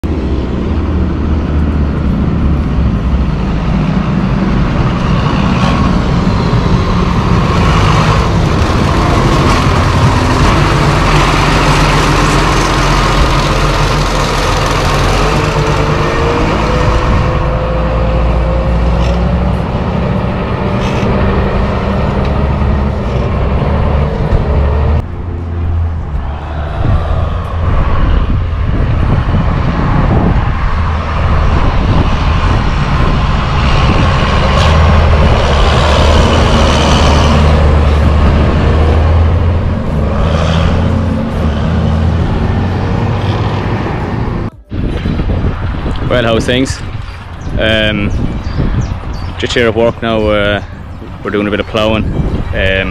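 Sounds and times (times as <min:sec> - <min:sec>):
rising whine: 0:00.0 - 0:49.4
tractor diesel engine passing: 0:00.0 - 0:52.9.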